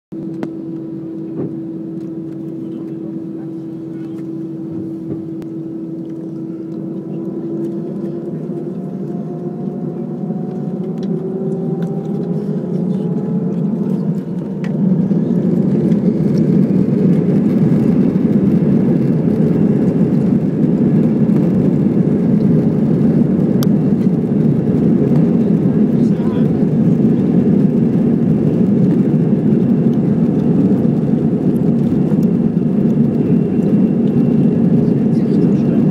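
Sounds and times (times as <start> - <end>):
jet engines spooling up: 0.2 - 35.9.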